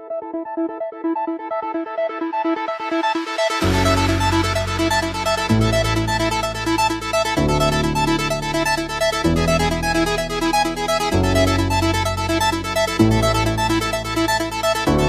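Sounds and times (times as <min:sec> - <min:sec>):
synthesizer bass chords: 0:01.4 - 0:15.0.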